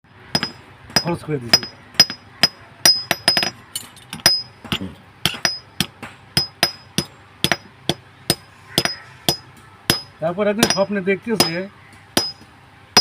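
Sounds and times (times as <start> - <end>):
hammer striking metal: 0.3 - 13.0.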